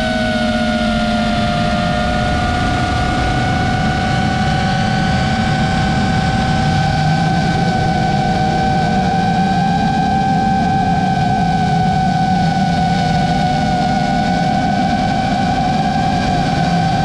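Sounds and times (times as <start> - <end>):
low rushing noise: 0.0 - 17.0
quadcopter motors whining: 0.0 - 17.0.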